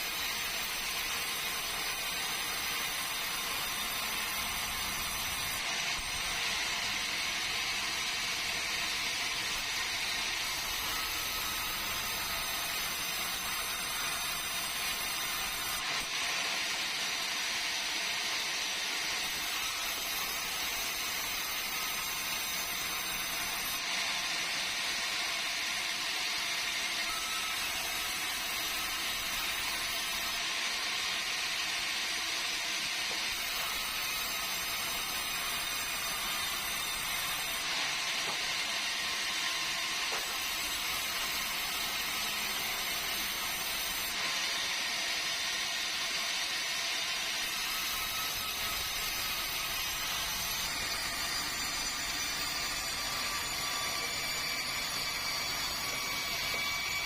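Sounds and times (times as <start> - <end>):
sawmill saw cutting timber: 0.0 - 57.0.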